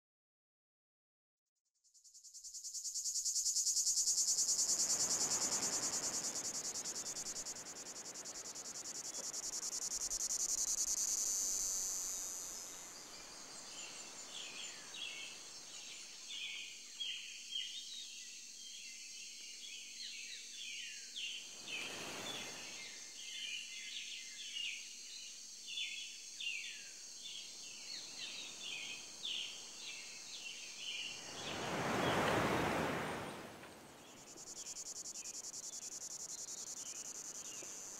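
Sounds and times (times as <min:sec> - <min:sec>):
crickets chirping: 0:01.8 - 0:37.9.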